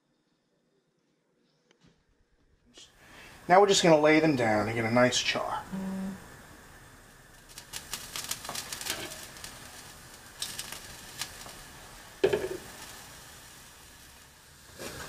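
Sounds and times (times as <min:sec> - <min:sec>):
light crackling: 0:02.8 - 0:15.0.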